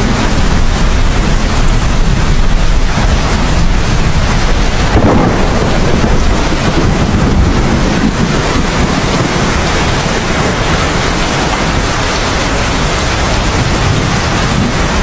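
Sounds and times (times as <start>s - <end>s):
heavy rain: 0.0s - 15.0s
low rumble of thunder: 0.0s - 15.0s.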